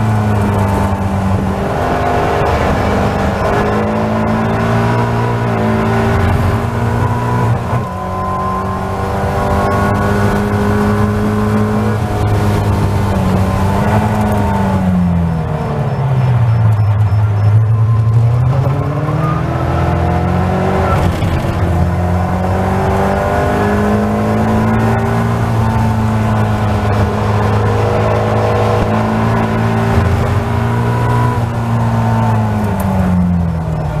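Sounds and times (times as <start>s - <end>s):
race car engine accelerating: 0.0s - 34.0s.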